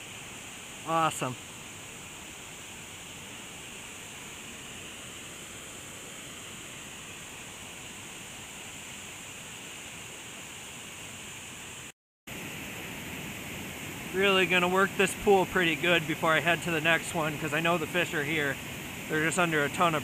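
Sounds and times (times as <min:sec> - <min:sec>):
creek and small waterfall rushing: 0:00.0 - 0:20.0.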